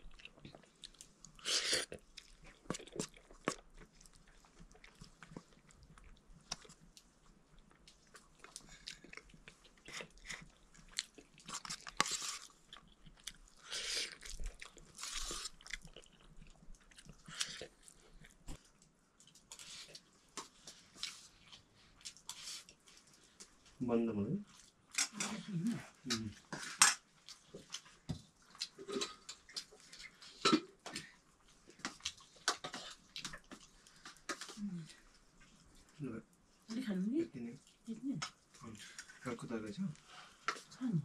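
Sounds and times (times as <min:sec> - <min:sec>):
wet chewing: 0:00.0 - 0:23.8, 0:24.5 - 0:36.5.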